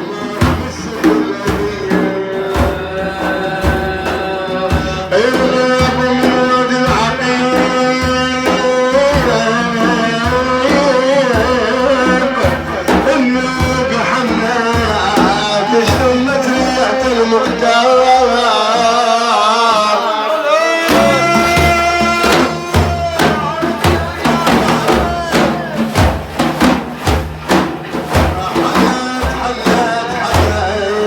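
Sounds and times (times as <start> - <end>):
hand drums beating: 0.0 - 31.0.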